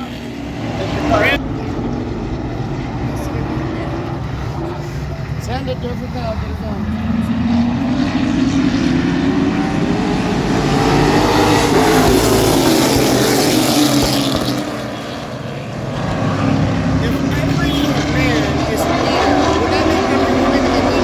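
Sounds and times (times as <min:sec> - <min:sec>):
racing truck engines passing: 0:00.0 - 0:21.0.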